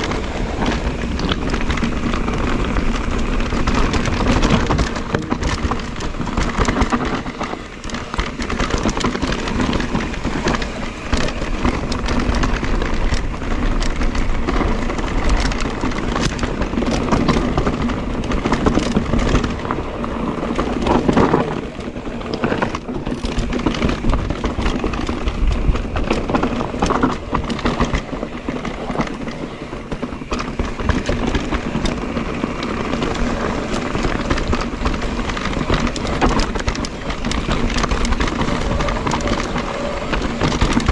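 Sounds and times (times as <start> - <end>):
bike rattles and knocks: 0.0 - 40.9
tyres crunching over stones: 0.0 - 40.9.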